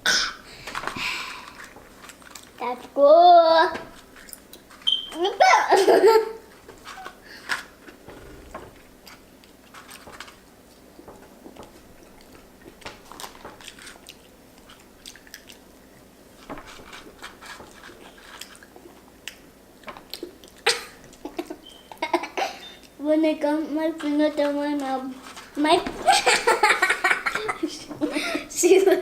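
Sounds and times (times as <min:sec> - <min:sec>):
children chewing food: 0:00.0 - 0:29.0.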